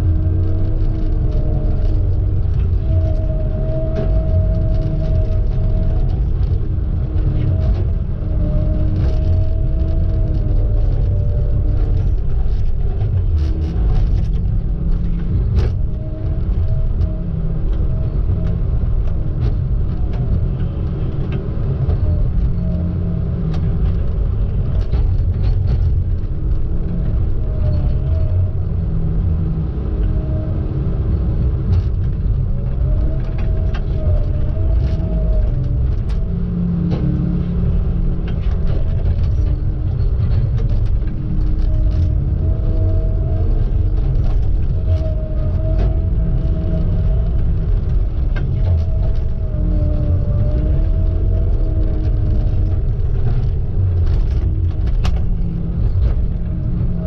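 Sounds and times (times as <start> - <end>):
heavy engine rumble: 0.0 - 57.0.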